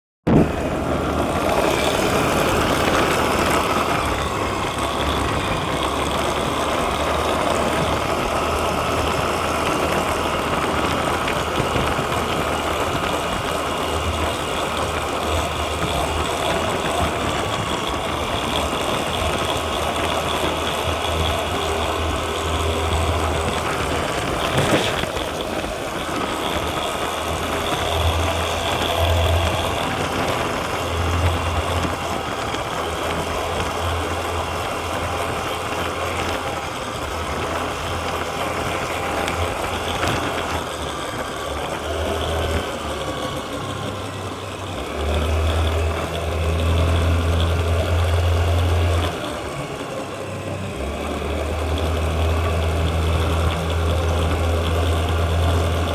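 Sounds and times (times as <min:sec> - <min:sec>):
scooter engine running: 0:00.2 - 0:55.9.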